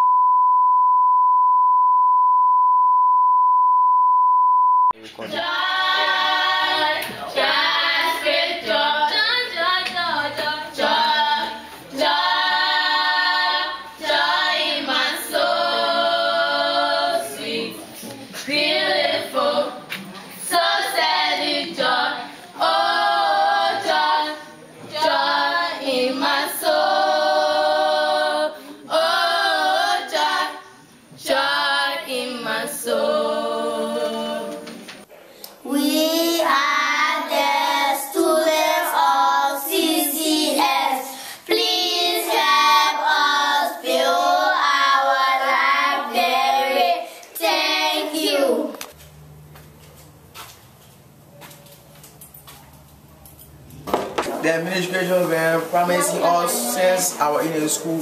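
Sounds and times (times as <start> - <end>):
group singing a cappella: 5.2 - 48.8, 54.4 - 58.0.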